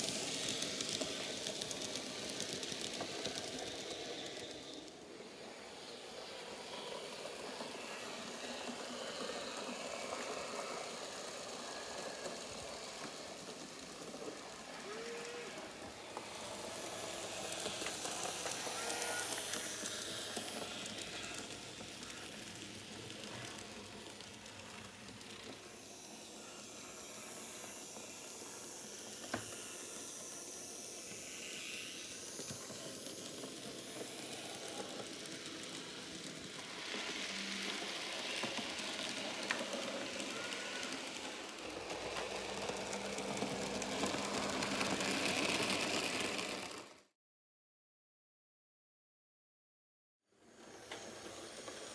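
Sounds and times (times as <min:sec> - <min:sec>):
model trains running on rails: 0:00.0 - 0:47.1, 0:50.3 - 0:51.9.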